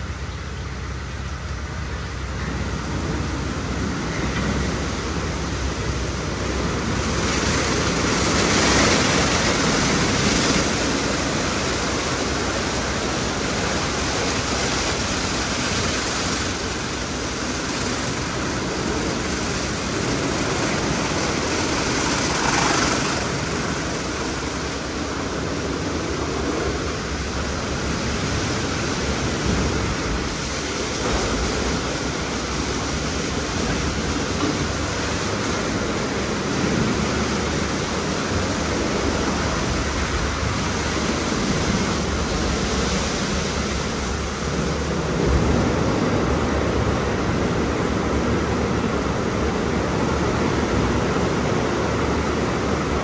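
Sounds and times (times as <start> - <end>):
car wash brushes and spray: 0.0 - 53.0.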